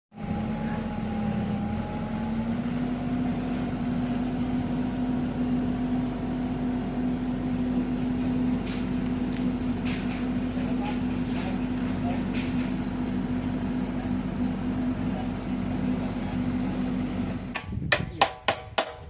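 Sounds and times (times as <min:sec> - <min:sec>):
excavator diesel engine running: 0:00.1 - 0:17.9.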